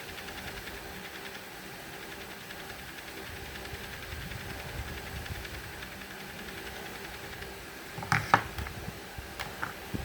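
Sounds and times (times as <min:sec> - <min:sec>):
small fan motor whirring: 0:00.0 - 0:10.0.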